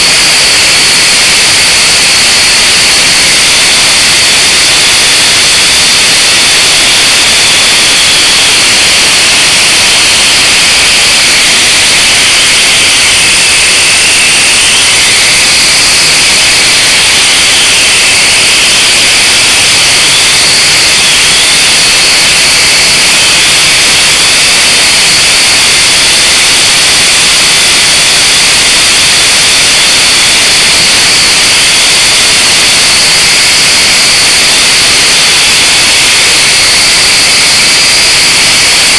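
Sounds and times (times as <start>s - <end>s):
quadcopter propellers whining: 0.0s - 38.9s.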